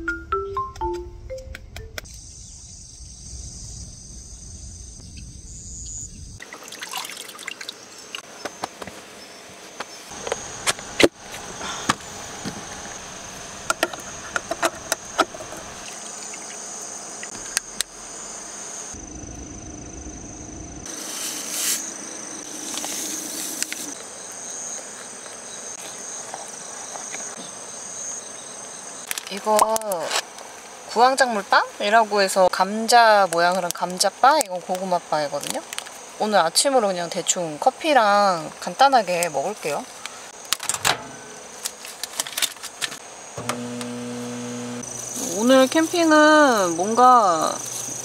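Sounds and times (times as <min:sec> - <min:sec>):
insects chirping: 0:01.8 - 0:48.0.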